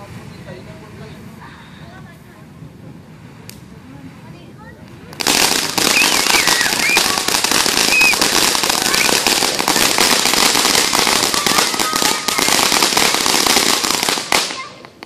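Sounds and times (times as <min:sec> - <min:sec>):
firework fountain crackling: 0:00.0 - 0:15.0.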